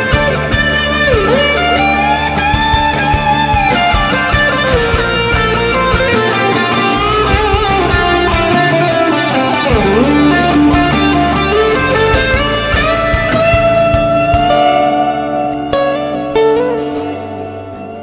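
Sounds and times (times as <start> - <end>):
guitar instrumental over steady beat: 0.0 - 18.0.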